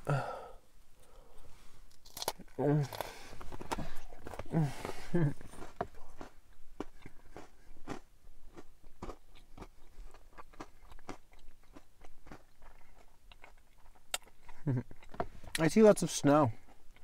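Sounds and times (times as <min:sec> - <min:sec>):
person chewing crunchy food: 0:01.9 - 0:15.6, 0:16.6 - 0:17.0.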